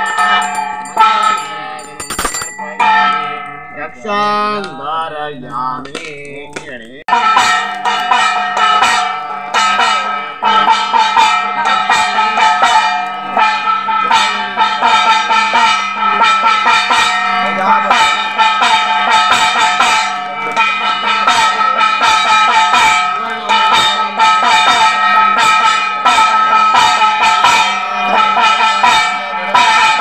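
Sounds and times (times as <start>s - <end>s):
bells and metal percussion ringing: 0.0s - 30.0s
drums beating: 0.0s - 30.0s.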